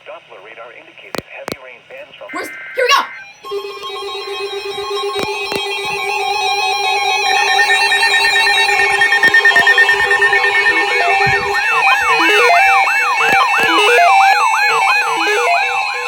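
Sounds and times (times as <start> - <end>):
ringing chord of beeps: 2.3 - 16.0
siren tone yelping: 2.3 - 16.0.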